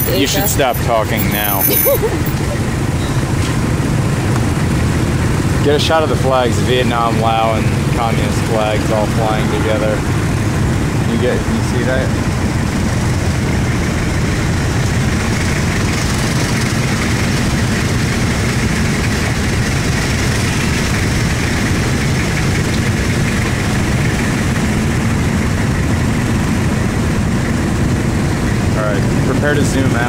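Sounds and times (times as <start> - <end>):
motorbike engine running: 0.0 - 30.0
road noise: 0.0 - 30.0.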